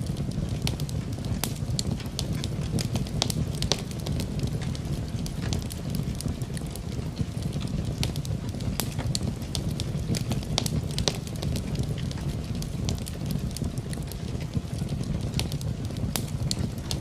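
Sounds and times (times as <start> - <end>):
rain: 0.0 - 17.0
wood fire crackling and popping: 0.0 - 17.0.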